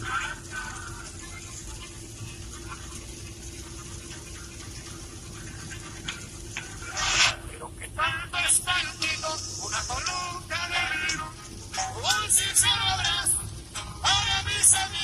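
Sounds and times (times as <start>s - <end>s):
road and rain noise in car: 0.0s - 15.0s.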